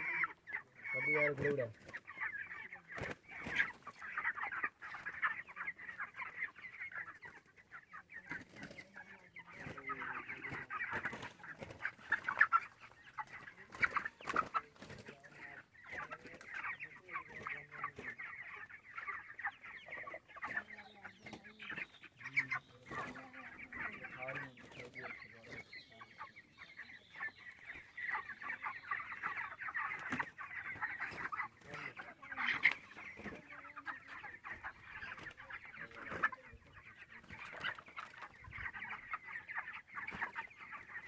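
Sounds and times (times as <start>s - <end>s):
chickens cheeping and clucking: 0.0s - 41.0s.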